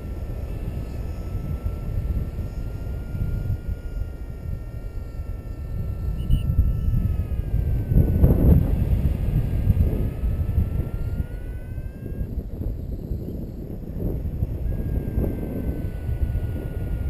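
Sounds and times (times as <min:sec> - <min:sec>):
faint thin steady tone: 0:00.0 - 0:17.0
wind buffeting microphone: 0:00.0 - 0:17.0.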